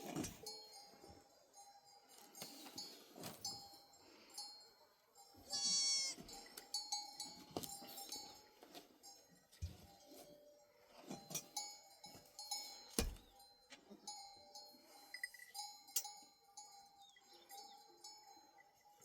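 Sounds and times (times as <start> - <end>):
animal bells clinking: 0.0 - 19.0.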